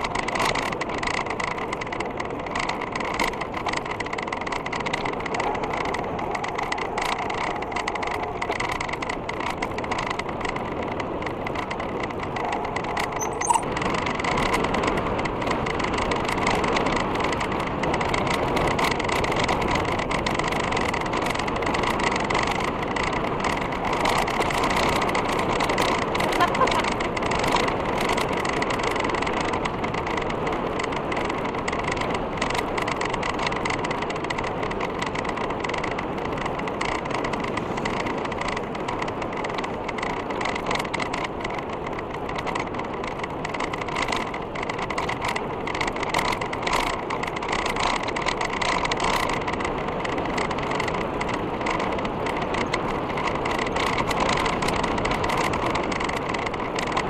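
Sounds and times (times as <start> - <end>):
bike rattling and ticking: 0.0 - 57.0
tyre and wind noise: 0.0 - 57.0.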